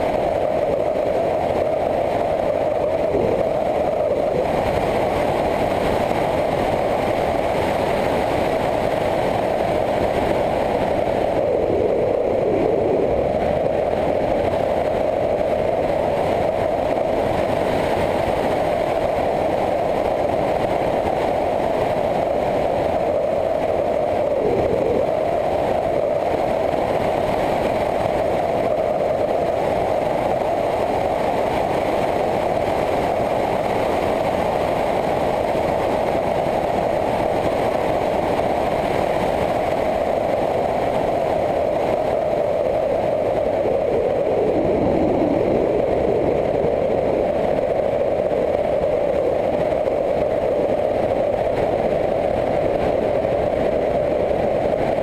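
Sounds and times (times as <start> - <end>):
wind rush: 0.0 - 55.0.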